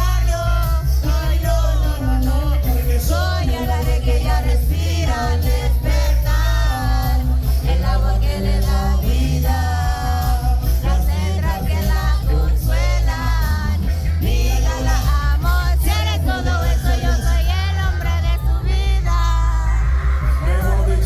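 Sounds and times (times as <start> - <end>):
loud bass-heavy beat: 0.0 - 21.0
person singing: 0.0 - 21.0.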